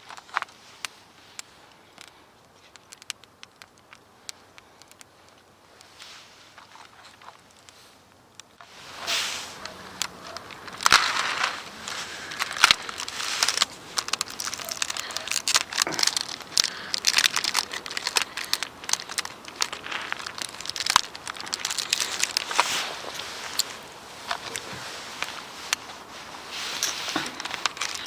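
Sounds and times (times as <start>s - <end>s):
crinkling and rustling: 0.0s - 28.0s
sharp clicks: 0.1s - 5.9s, 6.7s - 26.1s.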